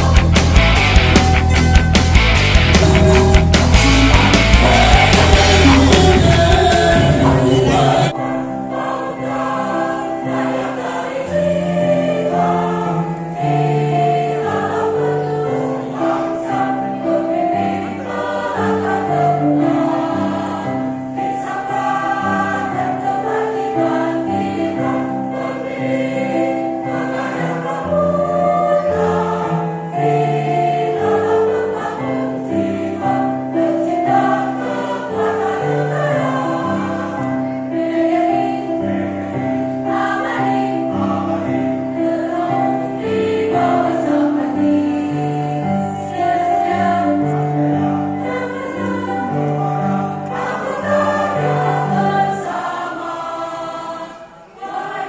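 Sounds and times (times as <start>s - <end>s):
female choir singing in harmony: 0.0s - 1.9s, 2.6s - 55.0s.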